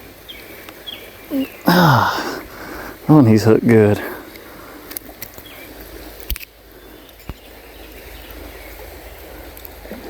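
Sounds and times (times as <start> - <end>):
shallow river flowing: 0.0 - 10.0.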